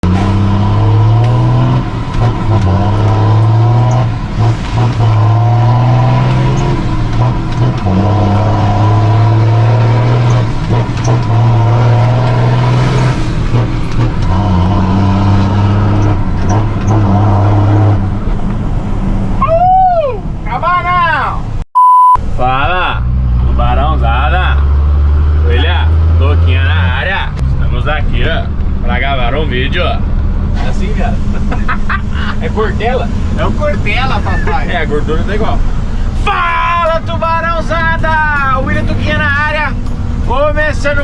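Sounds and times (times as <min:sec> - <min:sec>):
diesel truck engine growling: 0:00.0 - 0:21.6, 0:22.2 - 0:41.0.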